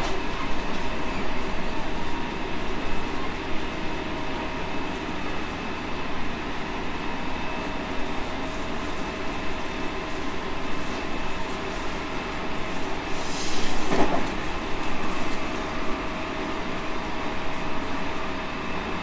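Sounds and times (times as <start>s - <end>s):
steady train whine: 0.0s - 19.0s
wheels rumbling on rail: 0.0s - 19.0s.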